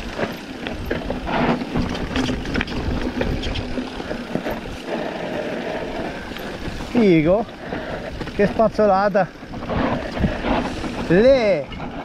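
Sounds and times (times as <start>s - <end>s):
bike rattling over bumps: 0.0s - 12.0s
bike tyres crunching over dirt: 0.0s - 12.0s.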